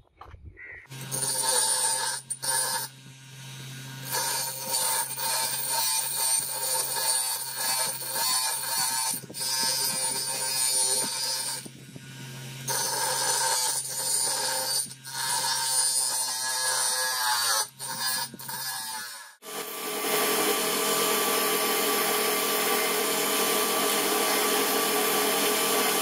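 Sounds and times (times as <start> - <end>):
steel grinding on wheel: 0.9 - 3.0, 4.0 - 26.0
bench grinder motor hum: 0.9 - 26.0.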